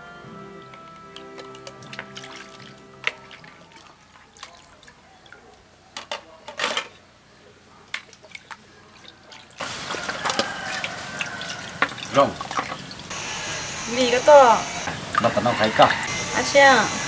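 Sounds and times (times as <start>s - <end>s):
water running: 0.0s - 5.6s, 8.0s - 17.0s
water splashing and dripping: 0.7s - 5.6s, 7.9s - 17.0s.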